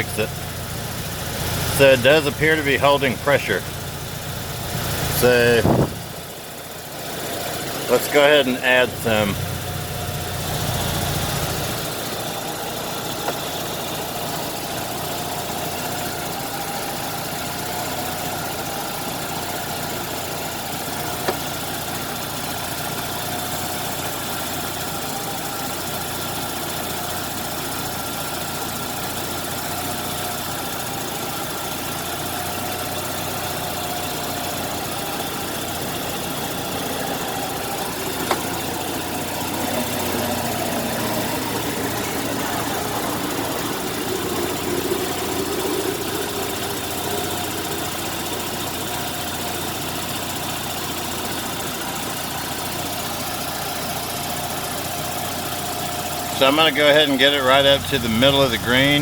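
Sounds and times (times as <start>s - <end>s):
rotary engine idling: 0.0s - 59.0s.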